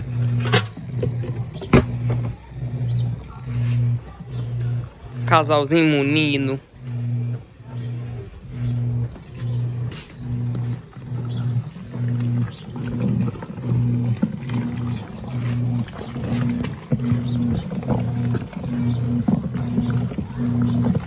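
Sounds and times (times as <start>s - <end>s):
washing machine motor pulsing hum: 0.0s - 21.0s
water sloshing: 0.0s - 21.0s.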